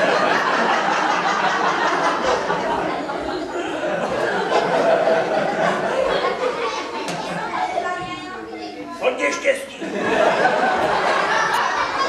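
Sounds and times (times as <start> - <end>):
children laughing and shouting: 0.0 - 12.0.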